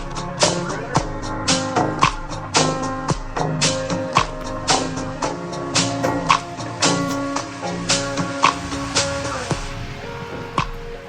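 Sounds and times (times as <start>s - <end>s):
held chords: 0.0s - 11.0s.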